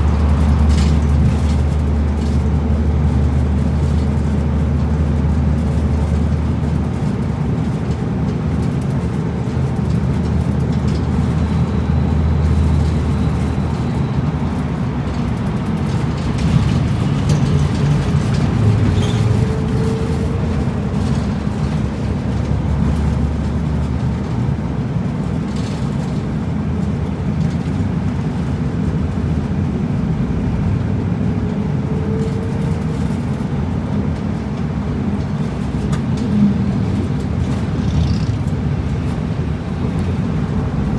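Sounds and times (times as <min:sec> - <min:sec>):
bus engine hum: 0:00.0 - 0:40.9
road noise: 0:00.0 - 0:40.9.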